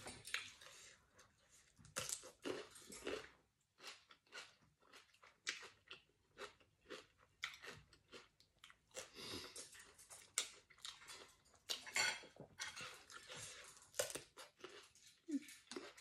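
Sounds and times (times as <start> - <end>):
person chewing crunchy cucumber: 1.8 - 11.9, 12.8 - 16.0.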